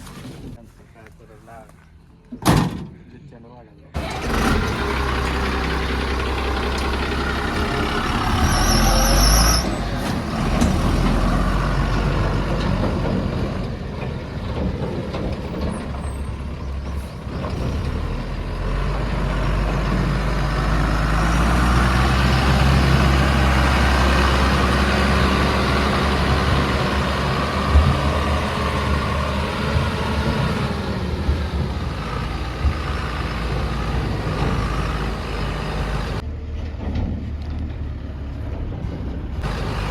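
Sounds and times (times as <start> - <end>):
diesel engine running: 4.0 - 36.6, 37.6 - 39.9.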